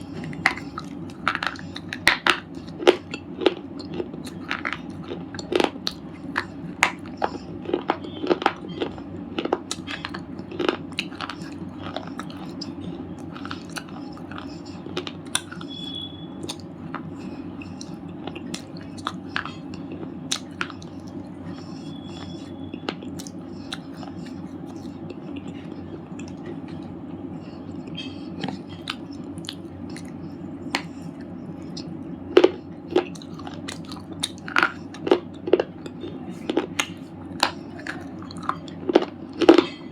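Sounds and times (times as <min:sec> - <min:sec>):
slate chips being chewed: 0:00.0 - 0:39.9.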